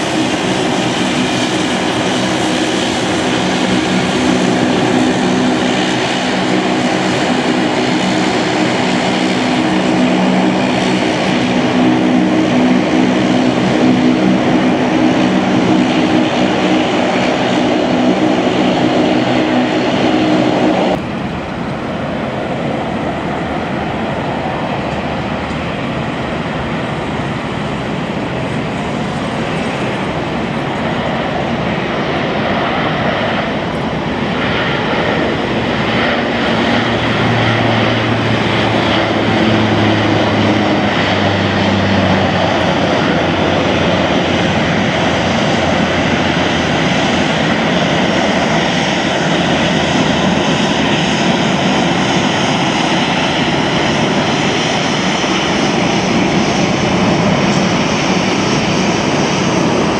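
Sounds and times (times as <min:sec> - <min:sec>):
turboprop engines roaring: 0:00.0 - 0:59.9.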